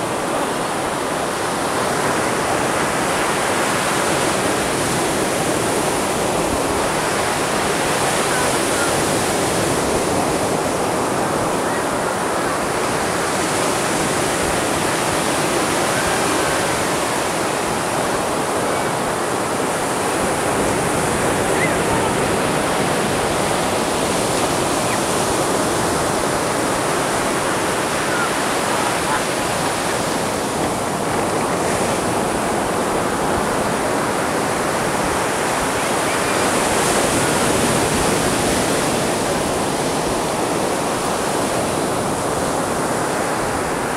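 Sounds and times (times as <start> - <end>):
surf breaking on beach: 0.0 - 43.9.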